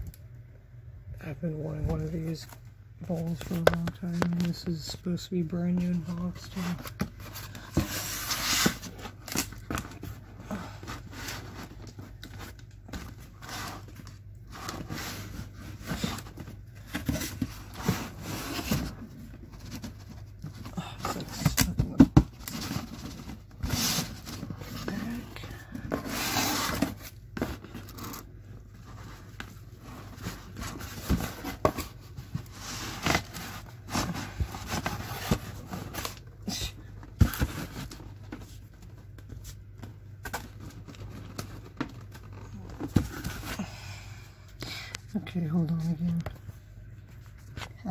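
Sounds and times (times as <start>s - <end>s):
cardboard scraping and rustling: 1.7s - 43.7s.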